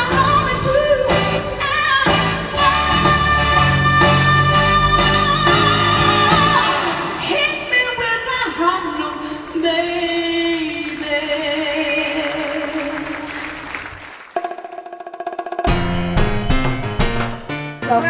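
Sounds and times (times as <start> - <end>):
music with singing voices: 0.0 - 13.0, 16.2 - 18.0.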